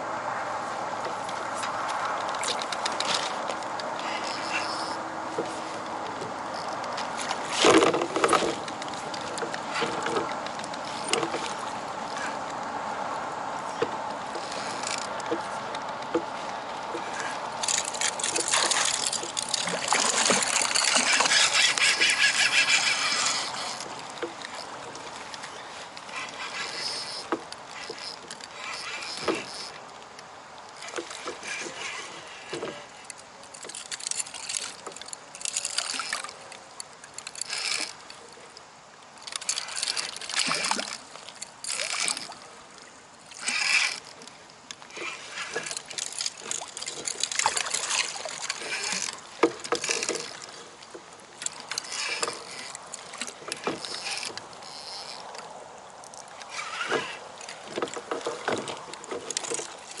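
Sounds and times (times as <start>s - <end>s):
water splashing against kayak: 0.0s - 60.0s.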